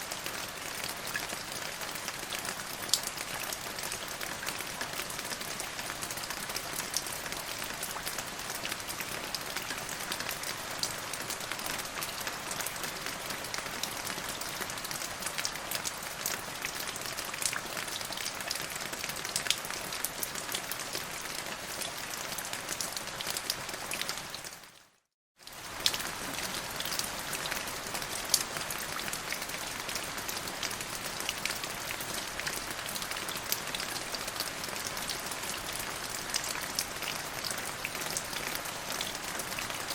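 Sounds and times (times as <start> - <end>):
steady rain with drop ticks: 0.0 - 39.9.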